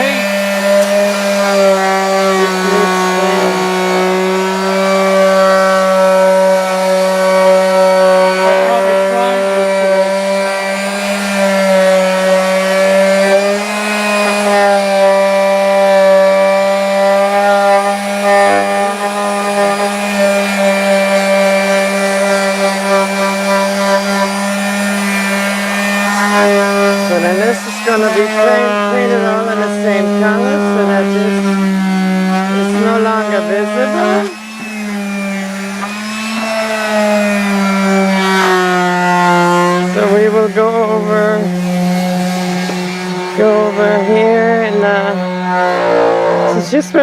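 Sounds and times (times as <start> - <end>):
electric power sander running: 0.0 - 47.0.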